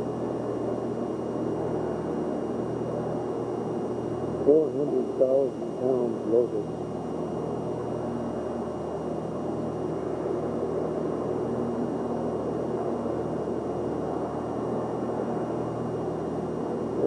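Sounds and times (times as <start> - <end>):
faint droning tones: 0.0 - 17.0
room noise hum and rumble: 0.0 - 17.0.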